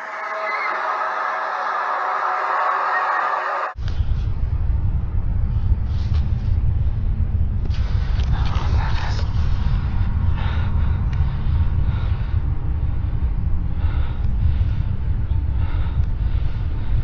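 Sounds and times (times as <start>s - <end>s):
loud low rumbling drone: 0.0s - 17.0s.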